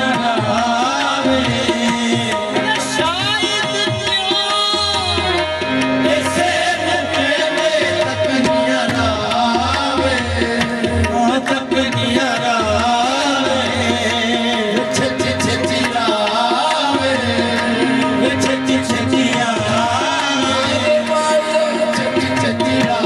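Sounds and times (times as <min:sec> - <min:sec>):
harmonium melody: 0:00.0 - 0:23.0
tabla beat: 0:00.0 - 0:23.0.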